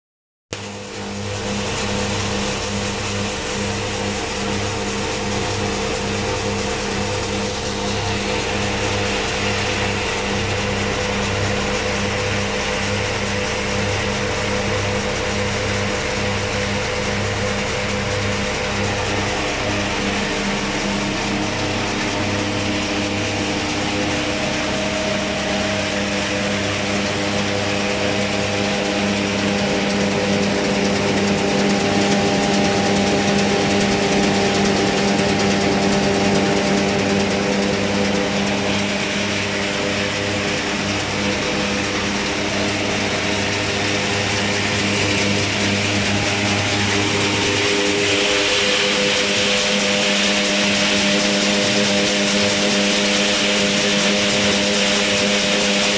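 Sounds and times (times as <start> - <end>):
machine droning: 0.6 - 55.9.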